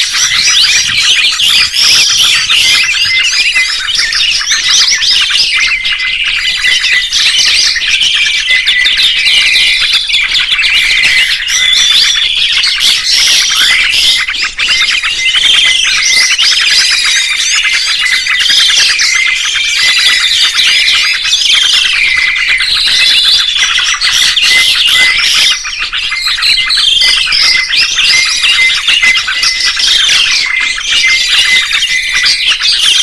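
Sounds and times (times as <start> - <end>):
songbird chorus: 0.0 - 33.0.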